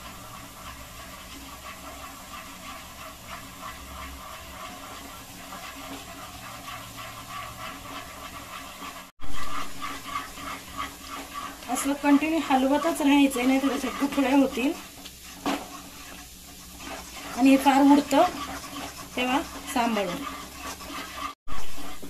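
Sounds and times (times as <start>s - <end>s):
soft stirring scrapes: 0.0s - 22.0s
water boiling and bubbling: 0.0s - 22.0s.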